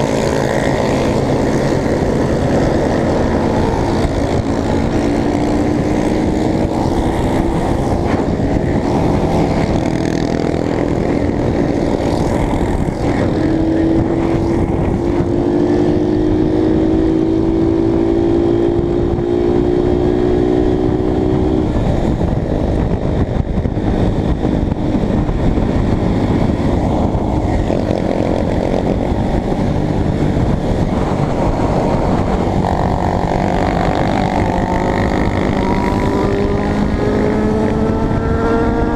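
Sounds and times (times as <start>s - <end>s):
loud wind rush: 0.0s - 38.9s
motorcycle engine running: 0.0s - 38.9s.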